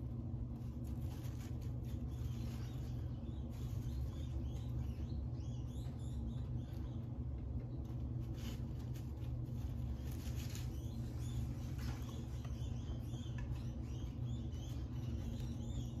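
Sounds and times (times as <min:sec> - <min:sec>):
rustling in wood-shaving bedding: 0:00.0 - 0:05.2, 0:07.8 - 0:16.0
rats squeaking: 0:00.0 - 0:16.0
steady low hum: 0:00.0 - 0:16.0.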